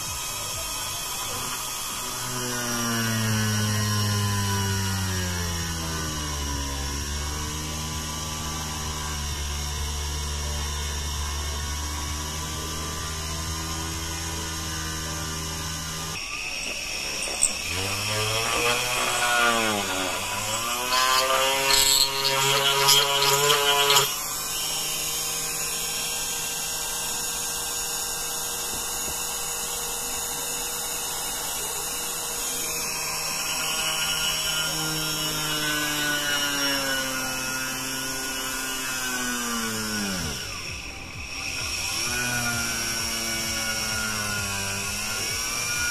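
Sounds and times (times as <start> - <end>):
electric drill whining through wood: 0.0 - 45.9.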